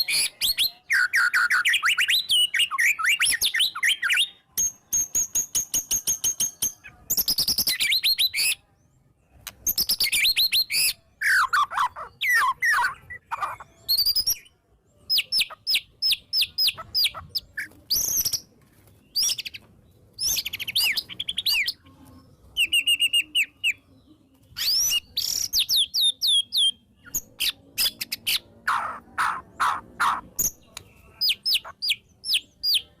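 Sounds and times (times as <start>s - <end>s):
songbird singing varied phrases: 0.0s - 5.2s, 6.4s - 33.0s.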